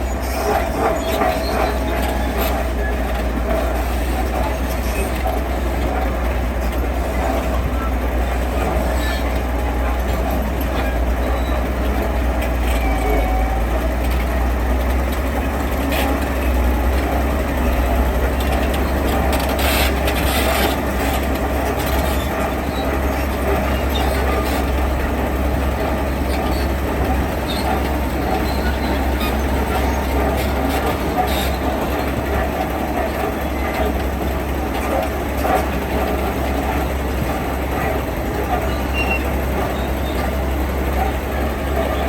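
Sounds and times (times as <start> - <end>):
diesel construction machinery running: 0.0 - 42.0
machinery clatters and knocks: 0.0 - 42.0.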